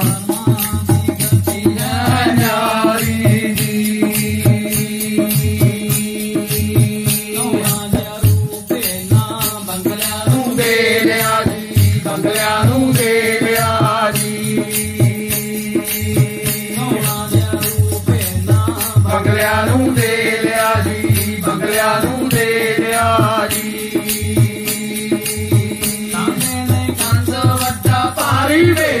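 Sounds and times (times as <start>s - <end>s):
men singing a devotional chant: 0.0s - 29.0s
quick percussion beat: 0.0s - 29.0s.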